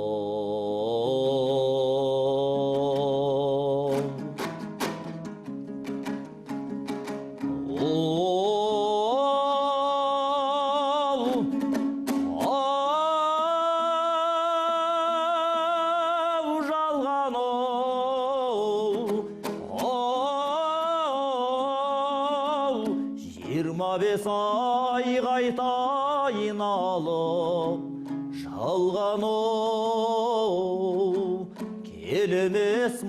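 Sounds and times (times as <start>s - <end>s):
person singing with vibrato: 0.0s - 33.0s
plucked strings: 2.5s - 33.0s.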